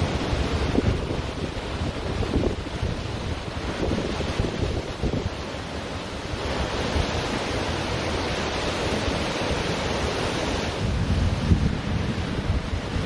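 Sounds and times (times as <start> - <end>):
ocean surf washing up beach: 0.0 - 13.0
wind rumbling on microphone: 0.0 - 13.0.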